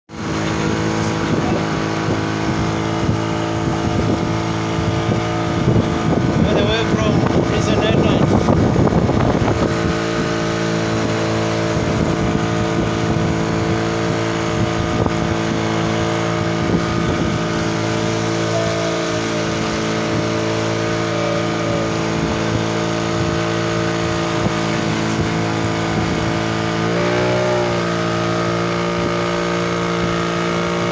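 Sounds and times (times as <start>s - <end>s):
motorboat engine running: 0.0s - 30.9s
wind and water hiss: 0.1s - 30.9s.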